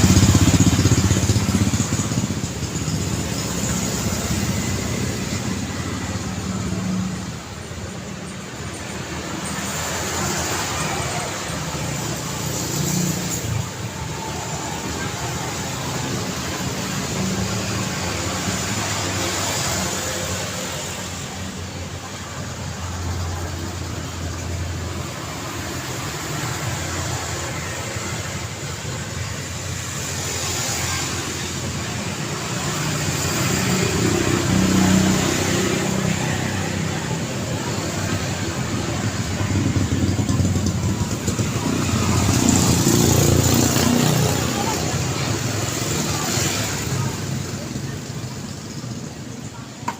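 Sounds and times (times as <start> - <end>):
cars passing: 0.0 - 49.9.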